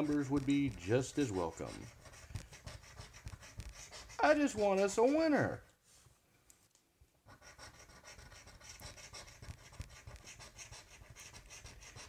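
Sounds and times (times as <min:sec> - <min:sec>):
coin scratching lottery ticket: 0:00.0 - 0:05.4, 0:07.3 - 0:12.0.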